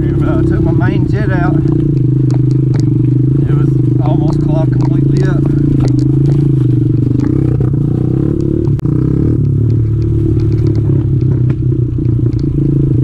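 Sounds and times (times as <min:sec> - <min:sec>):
bike clattering and rattling: 0:00.0 - 0:13.0
small motorbike engine revving: 0:00.0 - 0:13.0.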